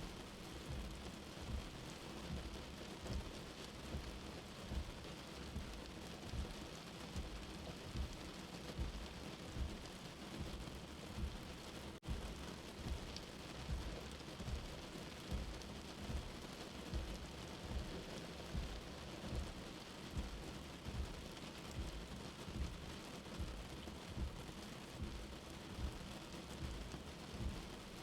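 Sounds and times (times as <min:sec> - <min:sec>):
slow heartbeat thumping: 0:00.0 - 0:28.0.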